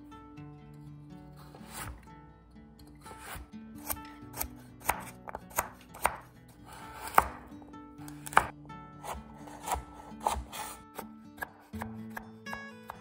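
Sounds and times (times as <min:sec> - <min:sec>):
knife chopping on cutting board: 0:01.5 - 0:02.0, 0:03.0 - 0:13.0.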